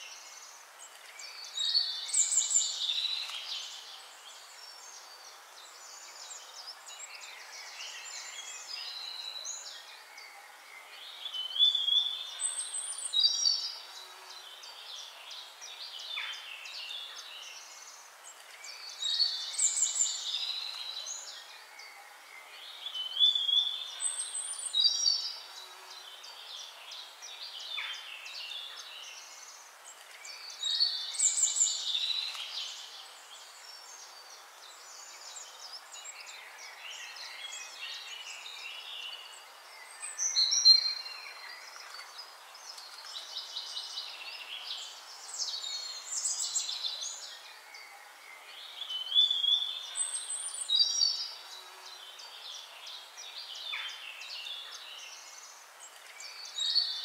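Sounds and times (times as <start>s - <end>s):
birds chirping and warbling: 0.0s - 57.0s.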